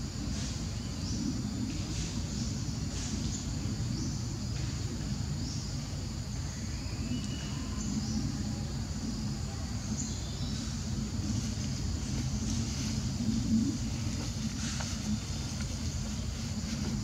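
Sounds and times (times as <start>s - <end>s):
continuous high hiss: 0.0s - 17.0s
steady low rumble: 0.0s - 17.0s
faint chirps: 0.2s - 16.9s.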